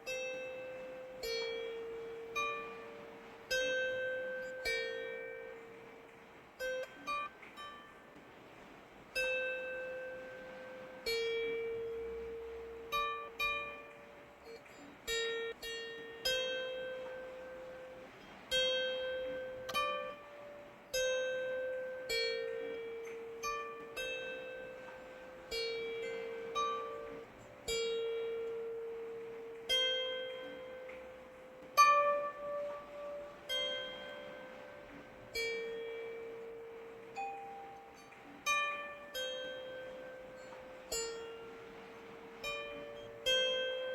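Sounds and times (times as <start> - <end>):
plucked string melody: 0.0 - 43.9
soft hiss of rain: 0.0 - 43.9.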